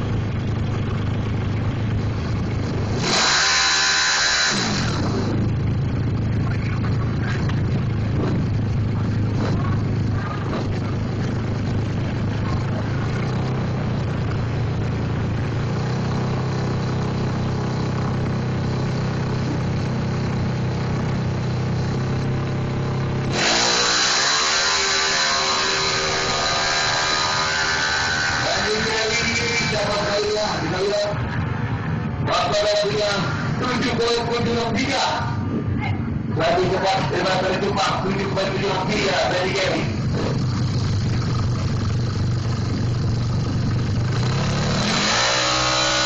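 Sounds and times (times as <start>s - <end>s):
loud noisy sound: 0.0s - 46.0s
motorcycle engine running: 0.0s - 46.0s.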